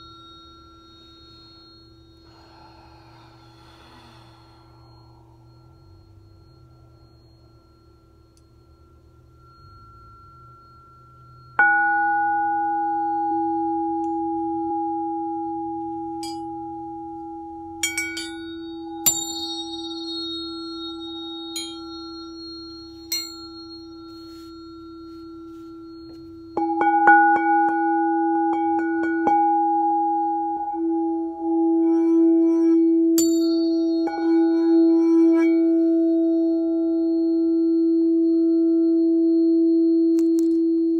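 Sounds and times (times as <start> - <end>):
tuning forks clinking: 0.0 - 29.8, 30.4 - 37.2
crystal singing bowl ringing: 0.0 - 40.9.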